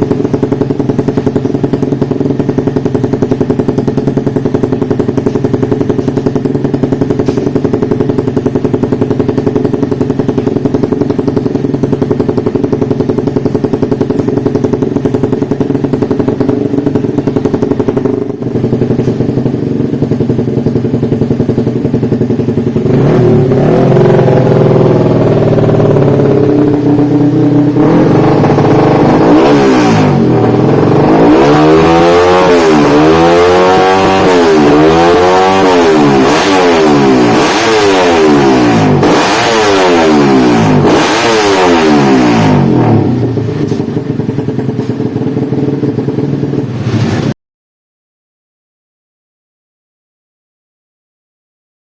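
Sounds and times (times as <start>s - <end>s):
motorcycle engine idling and revving: 0.0s - 47.4s.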